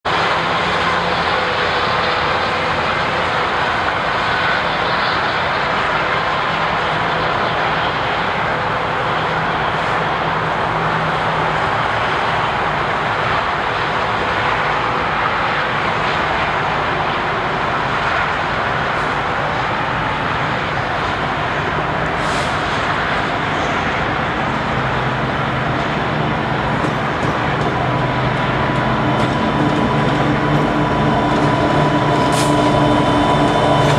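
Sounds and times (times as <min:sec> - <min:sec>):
freight train rumbling past: 0:00.0 - 0:33.9
low locomotive engine hum: 0:00.0 - 0:33.9.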